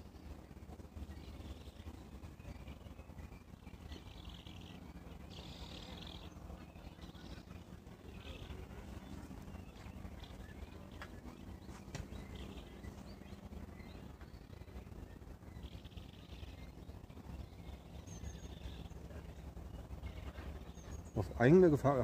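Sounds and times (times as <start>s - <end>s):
buzzy bird calls: 0.0s - 22.0s.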